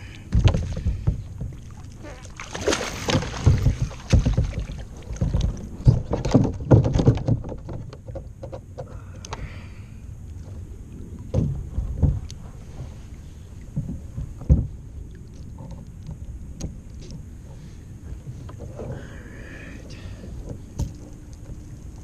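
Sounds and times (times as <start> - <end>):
low rumble of boat handling: 0.0 - 22.0.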